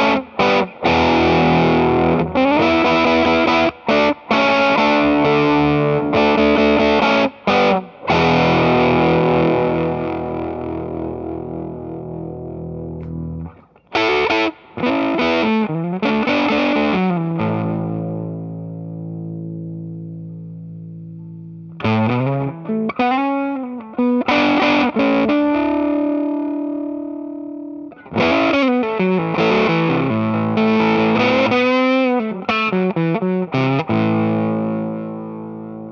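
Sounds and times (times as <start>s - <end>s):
distorted electric guitar chords: 0.0s - 35.9s.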